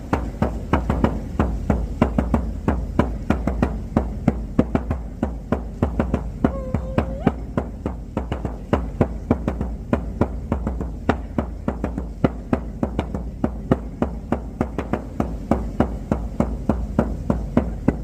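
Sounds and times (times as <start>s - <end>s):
frame drum struck with beater: 0.0s - 18.0s.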